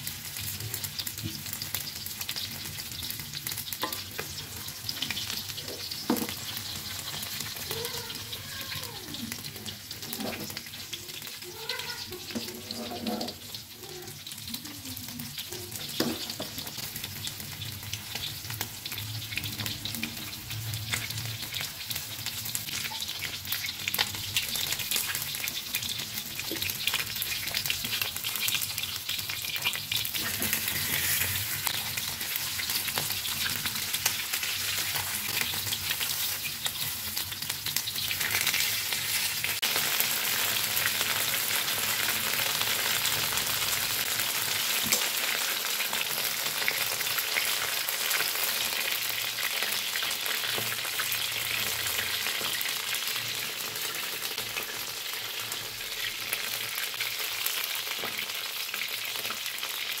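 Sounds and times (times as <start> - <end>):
chicken frying in hot oil: 0.0 - 60.0.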